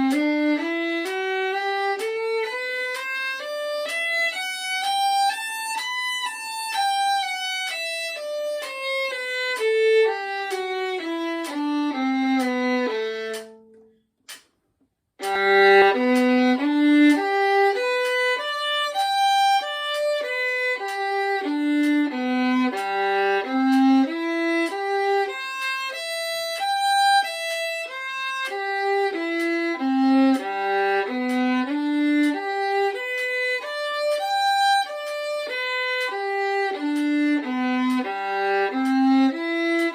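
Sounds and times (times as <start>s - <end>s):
solo violin playing scales: 0.0s - 13.6s, 15.2s - 39.9s.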